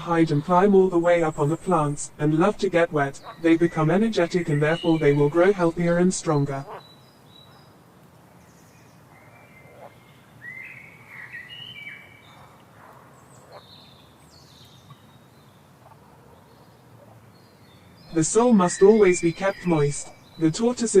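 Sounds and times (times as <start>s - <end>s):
low steady background hiss: 0.0s - 12.2s, 13.1s - 21.0s
birds chirping faintly: 0.0s - 21.0s.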